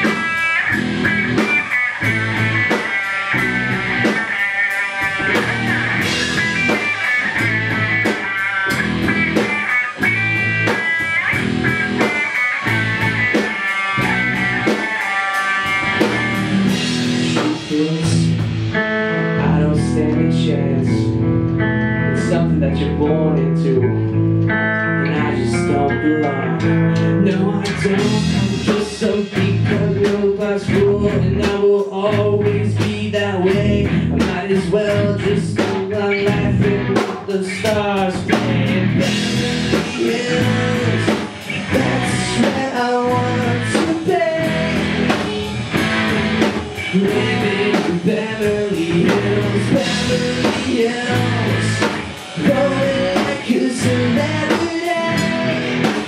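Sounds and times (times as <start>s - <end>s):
steady drum beat: 0.0s - 20.5s, 26.6s - 56.0s
live rock band playing: 0.0s - 56.0s.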